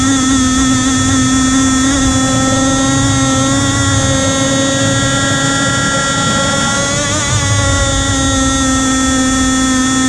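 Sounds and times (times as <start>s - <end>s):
two-stroke engine running: 0.0s - 10.0s.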